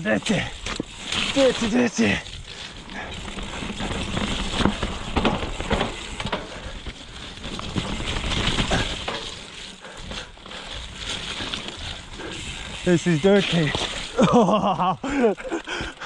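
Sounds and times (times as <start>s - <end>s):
bike tyres on muddy trail: 0.0s - 16.0s
bike knocking and rattling: 0.1s - 16.0s.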